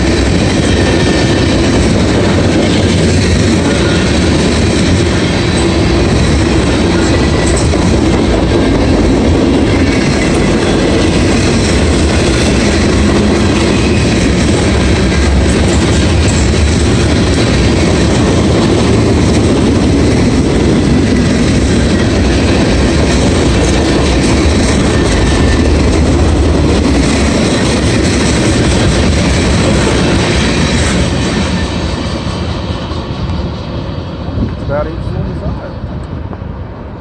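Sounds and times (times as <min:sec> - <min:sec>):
train wheels clattering on rails: 0:00.0 - 0:36.6.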